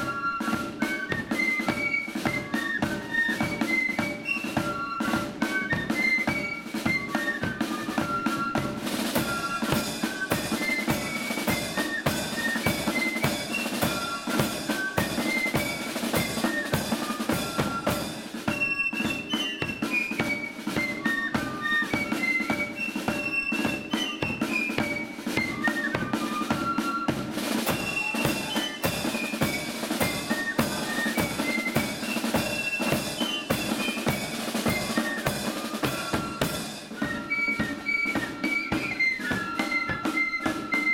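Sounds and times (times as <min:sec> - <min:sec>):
bass drum march beat: 0:00.0 - 0:40.1
flutes playing melody: 0:00.0 - 0:40.9
snare drums: 0:00.0 - 0:40.9.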